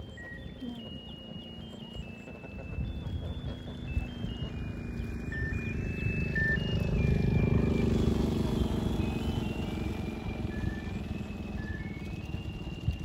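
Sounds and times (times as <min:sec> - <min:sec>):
engine rumbling: 0:00.0 - 0:13.0
high-pitched tone melody: 0:00.0 - 0:13.0.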